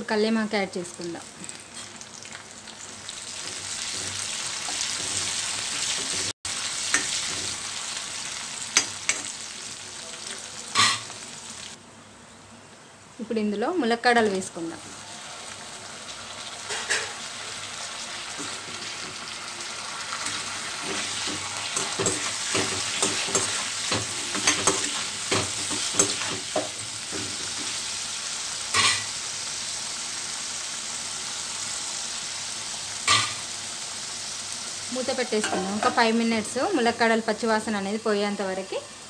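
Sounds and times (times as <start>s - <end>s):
meat sizzling in hot oil: 0.8s - 11.8s, 14.2s - 39.0s.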